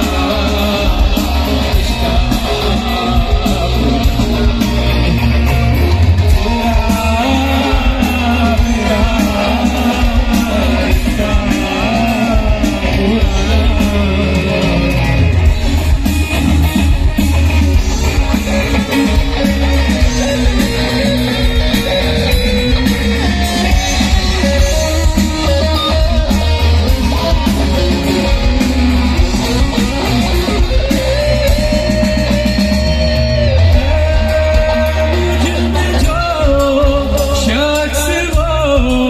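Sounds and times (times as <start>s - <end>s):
drums: 0.0s - 39.0s
electric guitars: 0.0s - 39.0s
heavy bass: 0.0s - 39.0s
lead guitar melody: 0.0s - 39.0s.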